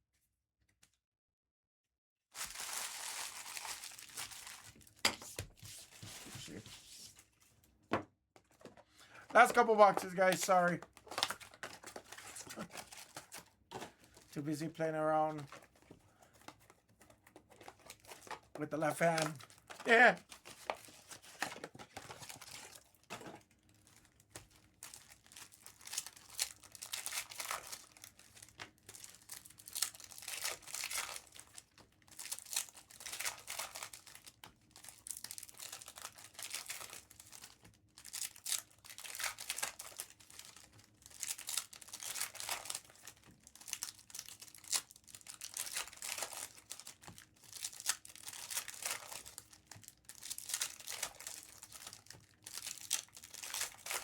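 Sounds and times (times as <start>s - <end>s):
foil wrappers tearing and crinkling: 2.4s - 7.3s, 9.2s - 16.7s, 17.4s - 54.0s.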